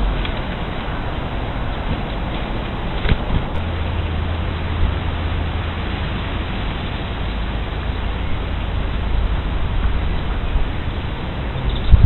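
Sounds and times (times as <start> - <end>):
low hum: 0.0 - 12.0
steady background hiss: 0.0 - 12.0.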